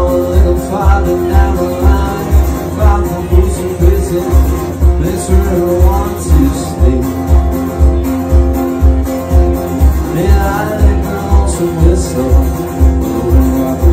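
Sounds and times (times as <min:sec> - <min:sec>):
man singing: 0:00.0 - 0:07.9, 0:09.7 - 0:13.9
acoustic guitar: 0:00.0 - 0:13.9
steady low beat: 0:00.0 - 0:13.9.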